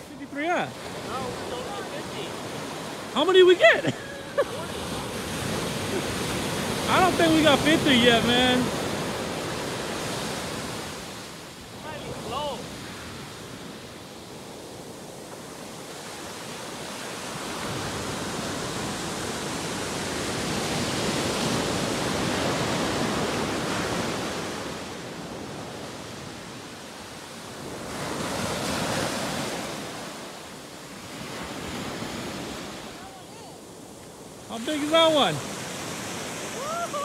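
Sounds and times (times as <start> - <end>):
ocean surf breaking: 0.0 - 37.0.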